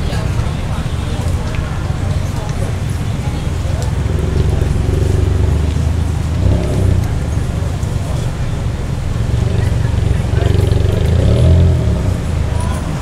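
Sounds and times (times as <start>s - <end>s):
motor vehicle rumbling: 0.0s - 13.0s
people talking: 0.0s - 13.0s.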